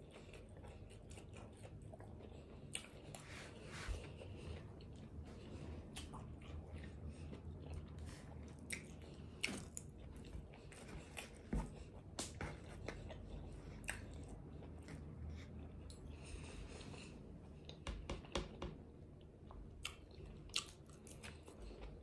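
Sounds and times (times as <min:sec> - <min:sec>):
close-up chewing: 0:00.0 - 0:17.8, 0:19.1 - 0:22.0.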